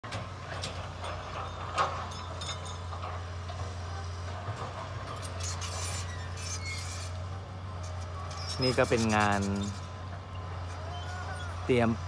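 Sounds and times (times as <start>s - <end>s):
construction machinery engines humming: 0.0s - 12.0s.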